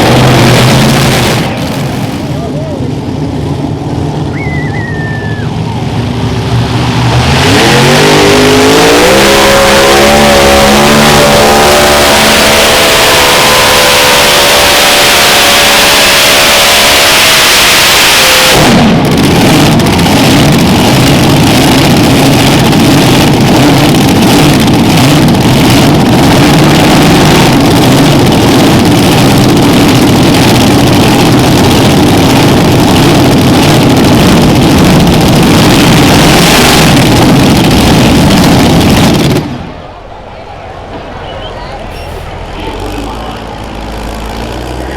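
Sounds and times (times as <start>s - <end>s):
pulling tractor engines roaring: 0.0s - 44.9s.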